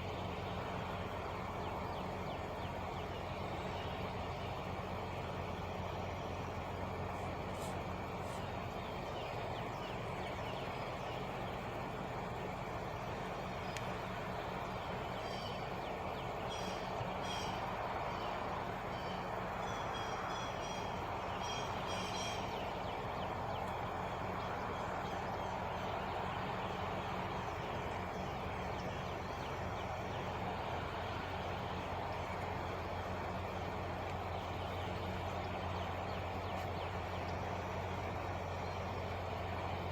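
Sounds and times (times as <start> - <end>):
birds chirping: 0.0 - 39.9
truck engine idling: 0.0 - 39.9.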